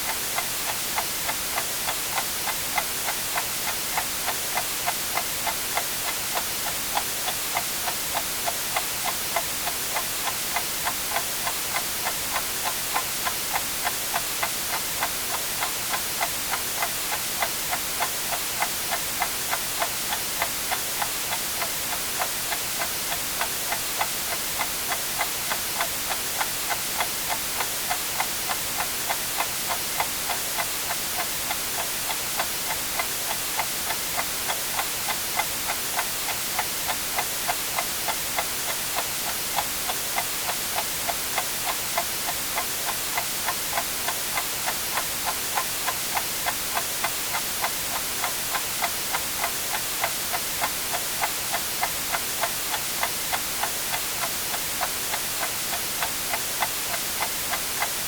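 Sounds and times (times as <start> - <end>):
white noise hiss: 0.0 - 58.0
clock ticking: 0.4 - 58.0.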